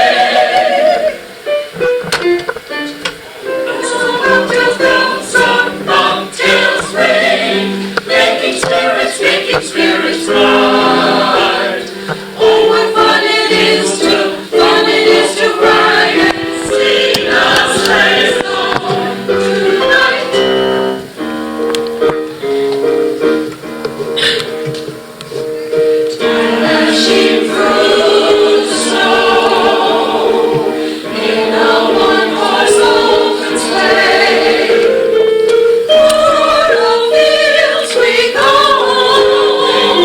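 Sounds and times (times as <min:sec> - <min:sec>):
choir singing: 0:00.0 - 0:01.5, 0:03.5 - 0:21.1, 0:26.2 - 0:40.0.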